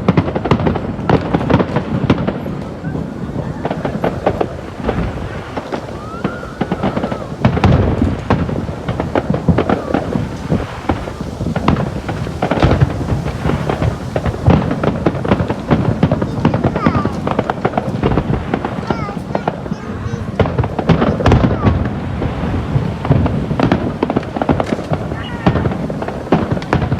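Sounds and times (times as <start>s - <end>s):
fireworks booming and crackling: 0.0s - 26.9s.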